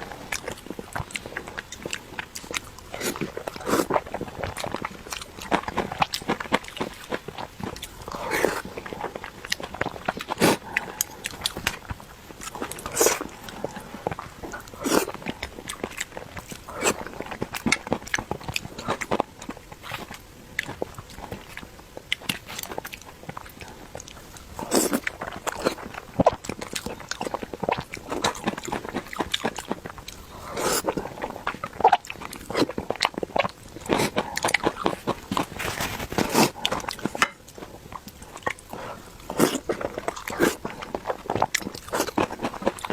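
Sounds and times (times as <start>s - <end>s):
wet chewing and lip smacking: 0.0s - 42.9s.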